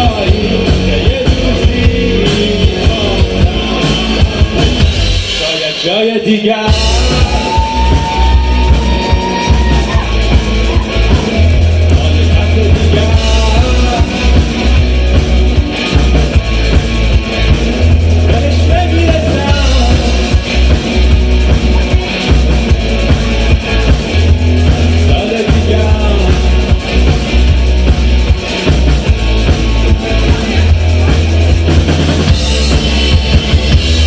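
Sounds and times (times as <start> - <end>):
rock band playing: 0.0 - 34.0.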